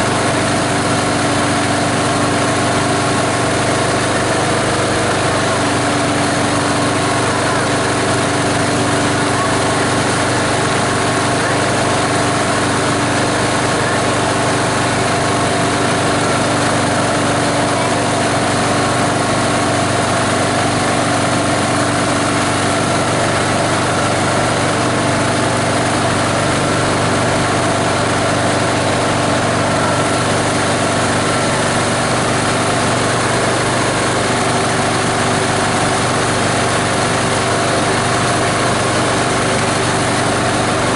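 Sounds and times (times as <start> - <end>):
diesel engine running loudly: 0.0 - 40.9.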